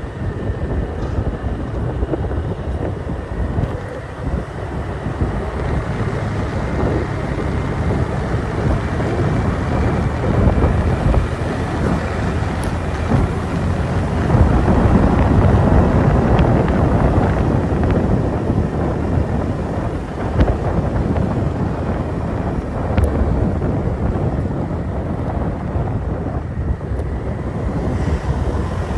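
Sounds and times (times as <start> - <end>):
motorbike engine running: 0.0 - 28.9
wind rushing over microphone: 0.0 - 28.9.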